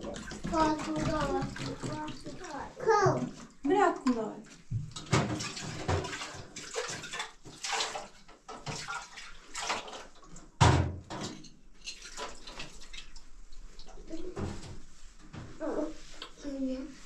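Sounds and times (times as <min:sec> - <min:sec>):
water splashing in sink: 0:00.0 - 0:17.0.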